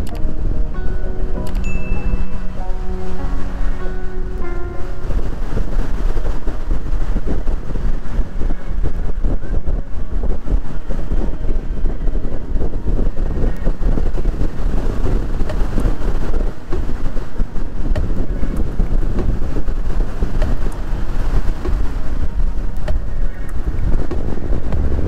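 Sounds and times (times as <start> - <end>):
waves washing around pilings: 0.0 - 25.0
wind buffeting microphone: 0.0 - 25.0.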